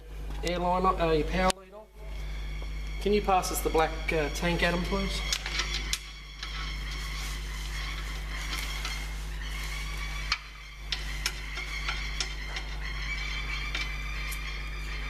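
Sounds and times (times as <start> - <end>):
steady hum: 0.0 - 15.0
thin high whine: 0.0 - 15.0.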